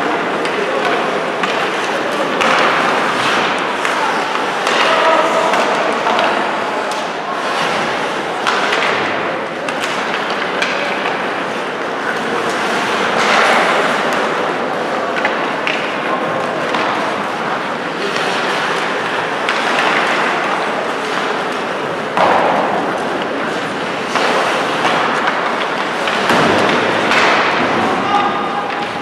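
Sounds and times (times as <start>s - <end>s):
hockey sticks and puck clacking: 0.0s - 29.0s
skates scraping ice: 0.0s - 29.0s.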